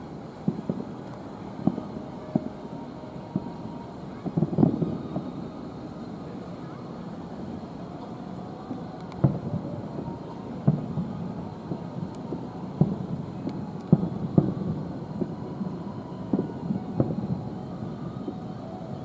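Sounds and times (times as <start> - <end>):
distant fireworks booming: 0.4 - 19.0.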